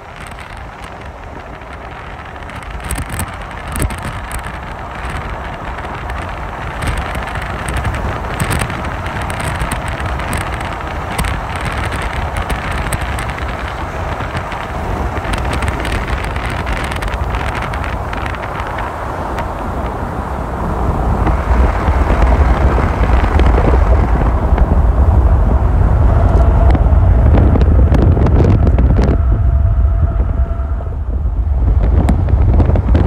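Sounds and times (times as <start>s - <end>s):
low rumble: 0.0s - 33.0s
steady rushing noise: 0.0s - 33.0s
wind buffeting microphone: 0.0s - 33.0s.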